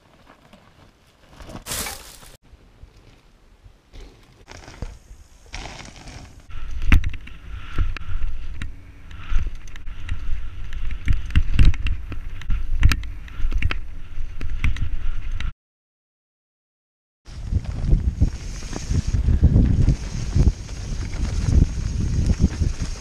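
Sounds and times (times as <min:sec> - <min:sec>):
wind and tyres rumbling: 0:00.0 - 0:15.5, 0:17.3 - 0:23.0.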